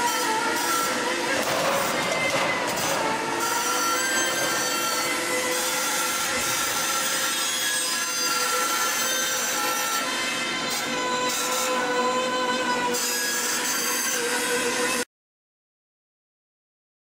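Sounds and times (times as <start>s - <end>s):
rolling machine rasping: 0.0s - 15.1s.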